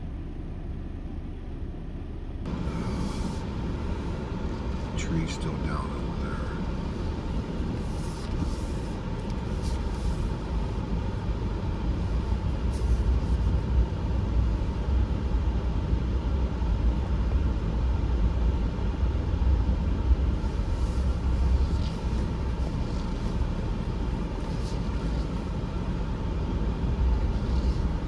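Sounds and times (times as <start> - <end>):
vehicle driving: 2.4 - 28.0.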